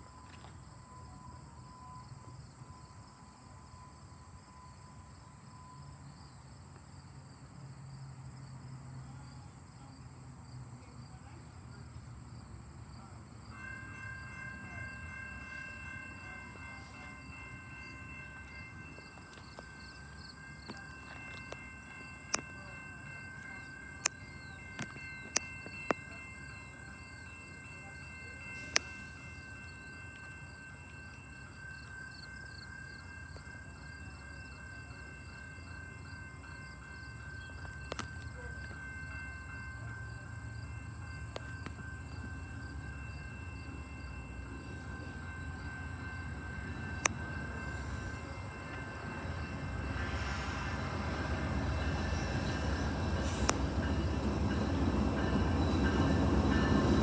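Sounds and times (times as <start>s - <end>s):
passenger train approaching: 0.0s - 57.0s.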